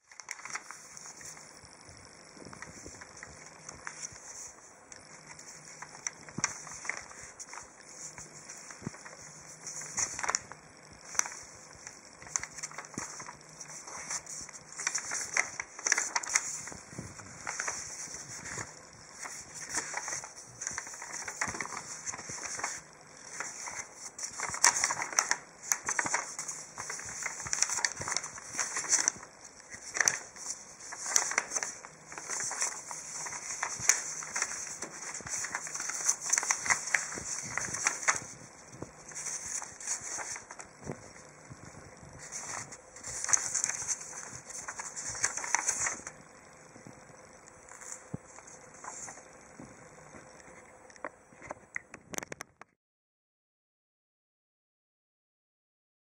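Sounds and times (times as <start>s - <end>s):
paper rustling and crinkling: 0.0s - 46.3s, 46.9s - 50.7s.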